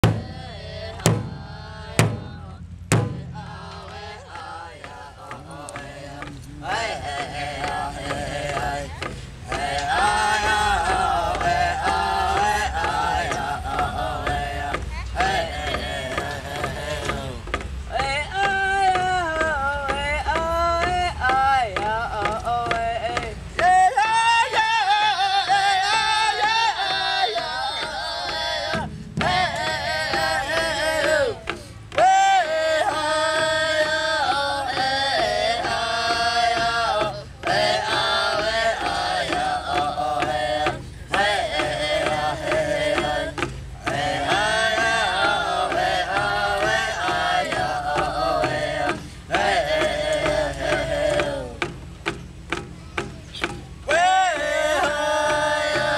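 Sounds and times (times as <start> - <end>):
group of voices singing: 0.0 - 55.9
sticks striking large hand drum: 0.0 - 55.9.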